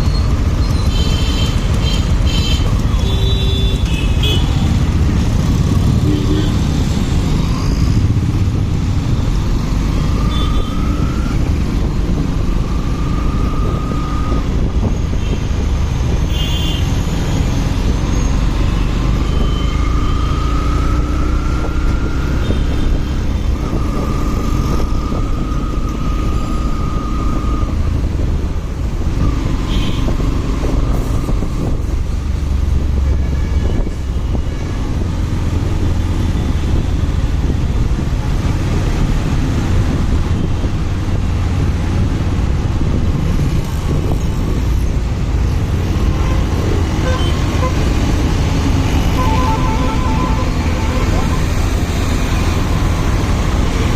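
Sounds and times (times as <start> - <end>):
motorcycle engine and road rumble: 0.0 - 53.9.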